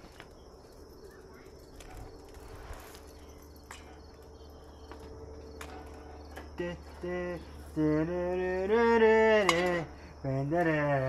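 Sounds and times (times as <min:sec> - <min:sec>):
faint outdoor drone: 0:00.0 - 0:11.0.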